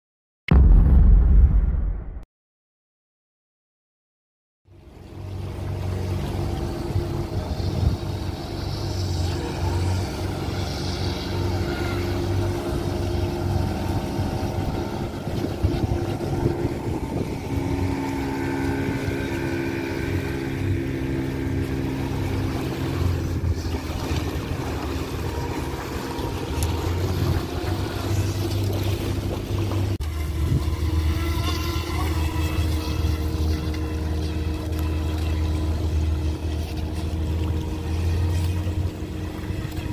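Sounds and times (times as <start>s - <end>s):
low engine drone: 4.7s - 39.9s
model speedboat motor whine: 4.7s - 39.9s.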